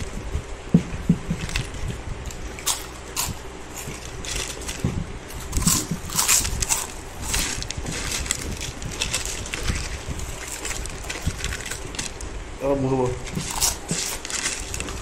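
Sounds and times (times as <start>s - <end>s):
people crunching potato chips: 1.4s - 12.2s, 13.2s - 15.0s.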